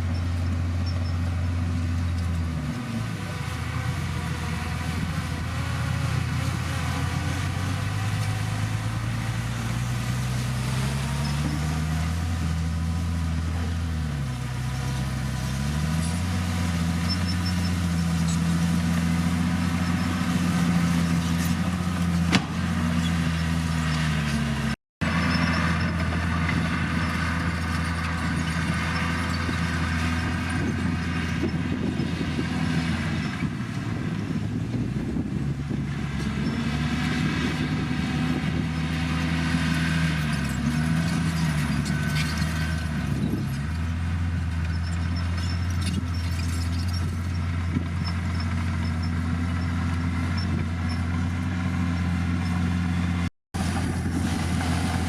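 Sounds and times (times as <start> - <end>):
bulldozer diesel engine revving: 0.0 - 55.0.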